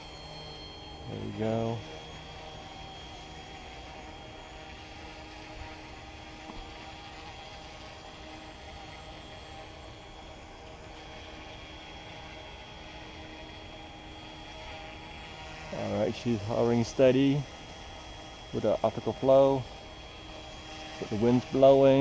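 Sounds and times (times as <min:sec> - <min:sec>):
thin high whine: 0:00.0 - 0:22.0
toy helicopter rotors whirring: 0:00.0 - 0:22.0.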